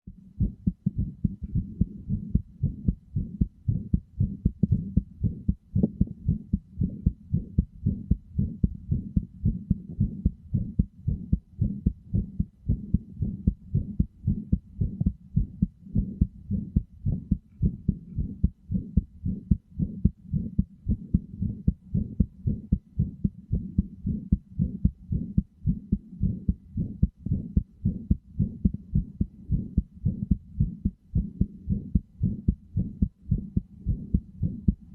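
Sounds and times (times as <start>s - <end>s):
heartbeat: 0.1s - 34.9s.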